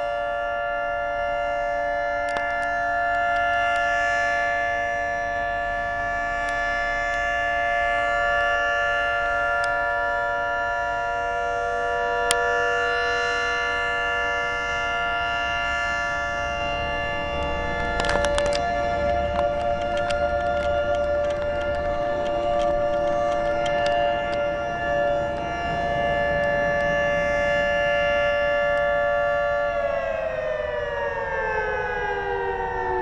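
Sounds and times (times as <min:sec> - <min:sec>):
warning siren steady tone: 0:00.0 - 0:33.0.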